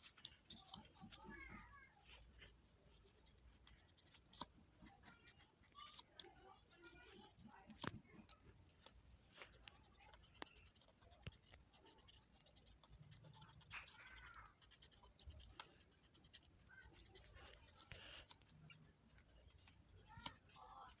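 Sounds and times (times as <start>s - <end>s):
marker scratching on paper: 0.0s - 7.0s, 9.3s - 21.0s.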